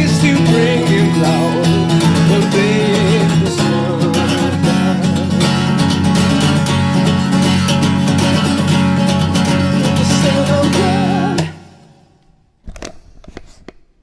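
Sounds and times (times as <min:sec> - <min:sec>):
acoustic guitar strumming: 0:00.0 - 0:12.5.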